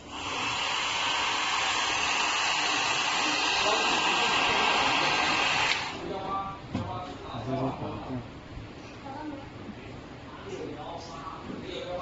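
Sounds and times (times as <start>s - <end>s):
fan blowing air: 0.0s - 12.0s.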